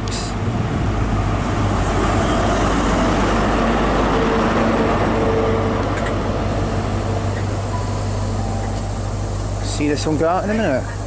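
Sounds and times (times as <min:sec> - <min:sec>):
diesel engine humming: 0:00.0 - 0:11.0.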